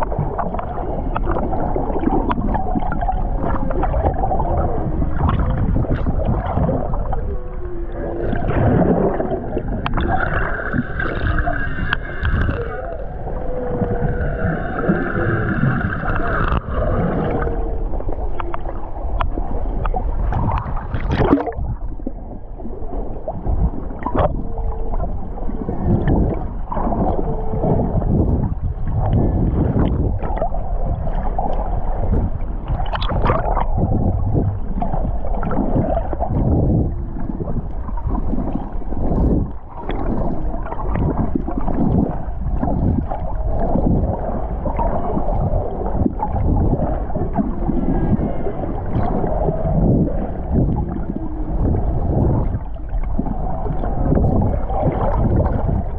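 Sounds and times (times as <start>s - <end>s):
whale calls: 0.0s - 21.6s, 23.8s - 32.2s, 32.9s - 55.9s
knocks and swishes in water: 0.0s - 55.9s
underwater rushing and bubbling: 0.0s - 55.9s.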